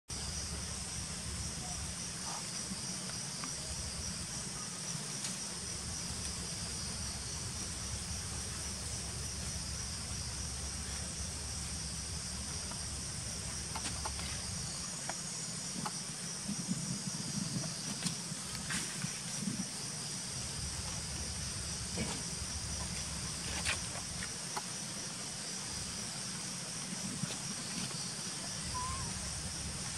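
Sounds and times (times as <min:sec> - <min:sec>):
insects trilling: 0:00.1 - 0:29.9.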